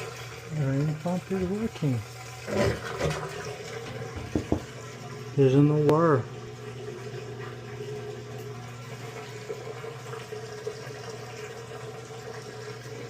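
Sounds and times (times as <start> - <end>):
washer drain pump humming: 0.0 - 13.0.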